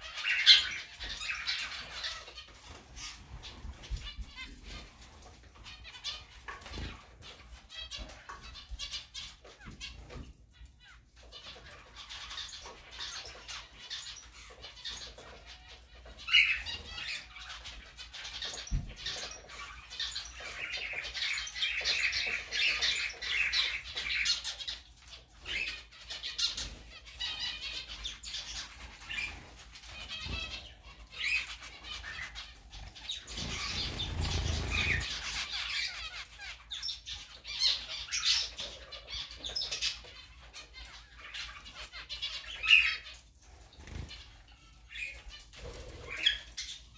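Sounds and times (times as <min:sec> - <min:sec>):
zebra finches chattering: 0:00.0 - 0:46.9.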